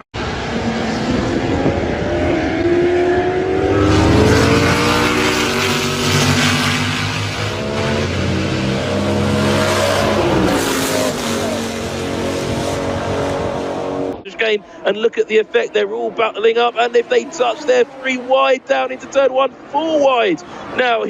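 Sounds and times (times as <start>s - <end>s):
race car engines accelerating: 0.2s - 21.0s.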